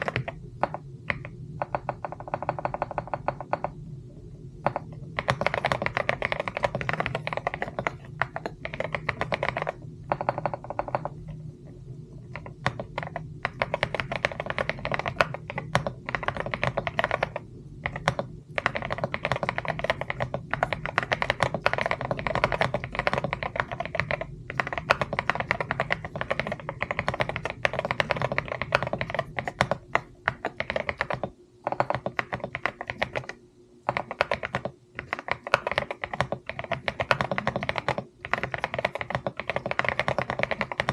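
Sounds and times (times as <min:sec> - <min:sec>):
typing on a mechanical keyboard: 0:00.0 - 0:03.8, 0:04.6 - 0:40.9.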